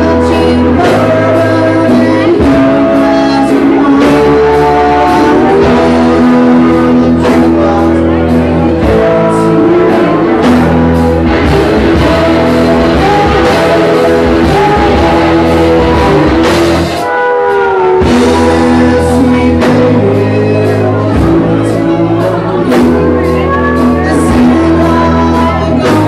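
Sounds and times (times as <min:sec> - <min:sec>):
bass guitar: 0:00.0 - 0:26.0
drums: 0:00.0 - 0:26.0
electric guitars: 0:00.0 - 0:26.0.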